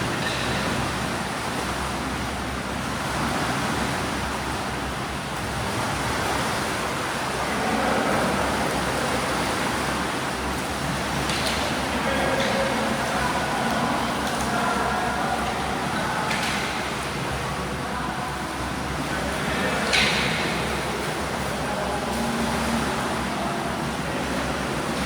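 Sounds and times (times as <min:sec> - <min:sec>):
water splashing from swimmers: 0:00.0 - 0:25.0.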